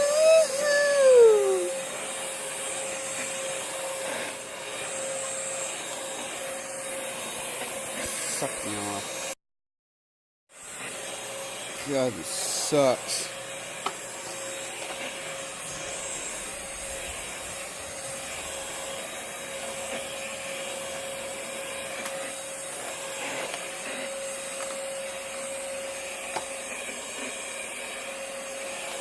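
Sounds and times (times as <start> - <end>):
vacuum cleaner running: 0.0 - 9.4, 10.5 - 29.0.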